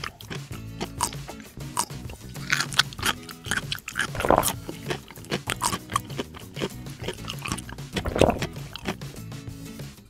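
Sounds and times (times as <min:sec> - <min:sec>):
cartoon munching and chomping: 0:00.0 - 0:09.3
light background music: 0:00.0 - 0:10.0.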